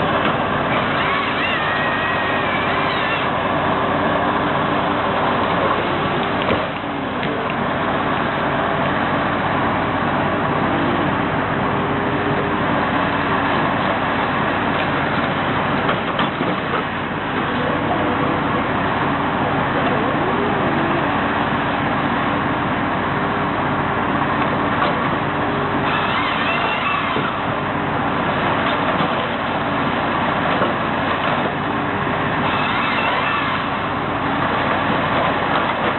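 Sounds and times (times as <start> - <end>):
heavy machinery engine running: 0.0 - 35.9.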